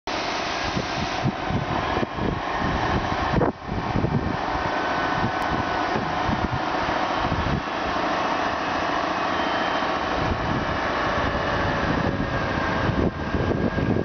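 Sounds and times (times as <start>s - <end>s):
road sweeper vacuum rush: 0.1s - 14.0s
low rumbling: 0.7s - 9.0s, 9.6s - 14.0s.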